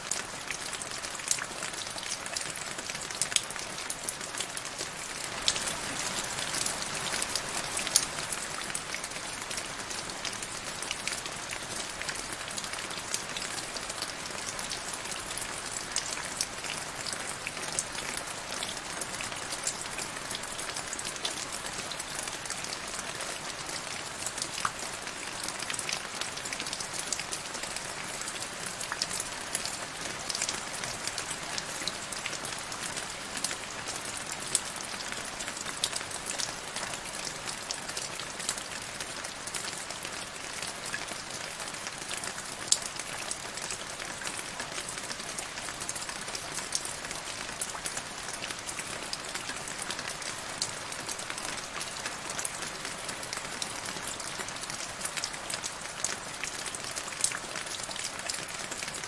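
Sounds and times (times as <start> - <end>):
rain falling into a puddle: 0.0 - 59.0.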